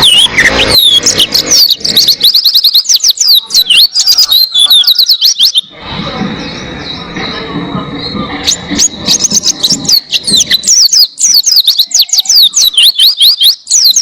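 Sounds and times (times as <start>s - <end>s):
small bird singing high chirps: 0.0s - 5.7s, 6.3s - 14.0s.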